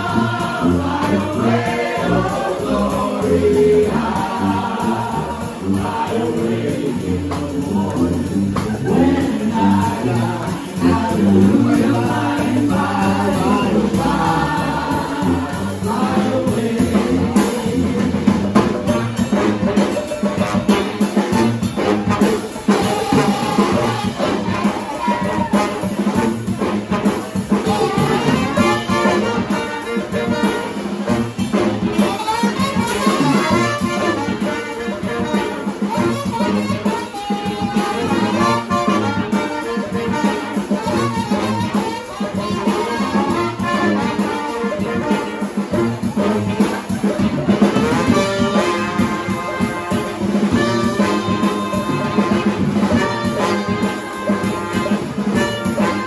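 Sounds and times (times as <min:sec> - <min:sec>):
brass band playing: 0:00.0 - 0:56.0
drum kit: 0:00.0 - 0:56.0.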